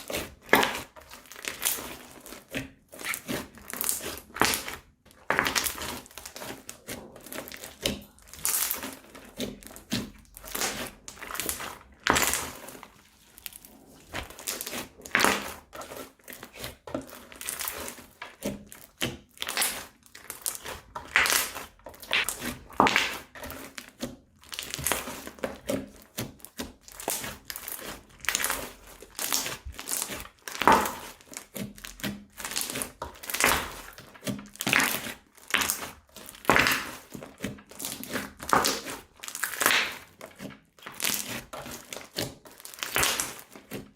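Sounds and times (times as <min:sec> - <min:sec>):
slime popping and crackling: 0:00.0 - 0:43.9.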